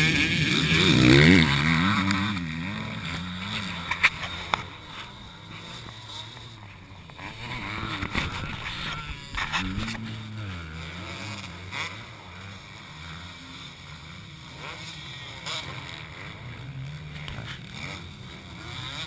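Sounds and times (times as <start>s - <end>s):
another bike engine: 0.0s - 19.0s
distant dirt bikes running: 0.0s - 19.0s
motocross bike revving: 0.0s - 19.0s.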